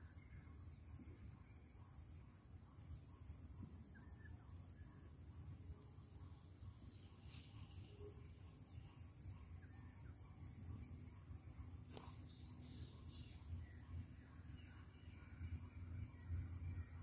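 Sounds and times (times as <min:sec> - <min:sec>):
faint insect chirring: 0:00.0 - 0:17.0.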